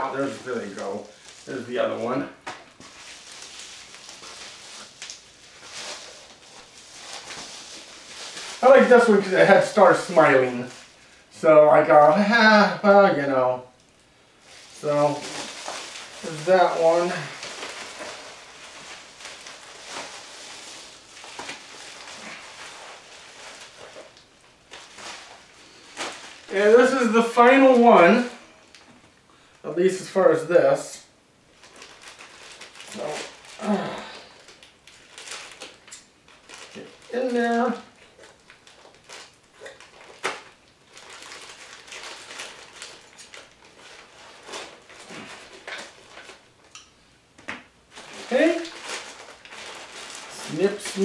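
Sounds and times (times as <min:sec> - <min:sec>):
metallic bubble mailer crinkling: 0:00.0 - 0:11.1, 0:14.4 - 0:29.0, 0:31.5 - 0:46.8, 0:47.9 - 0:51.0.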